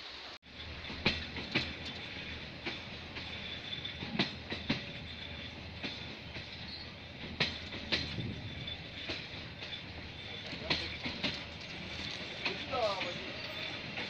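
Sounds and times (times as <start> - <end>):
train low rumble: 0.0 - 14.0
wheel clicks over rail joints: 0.7 - 14.0.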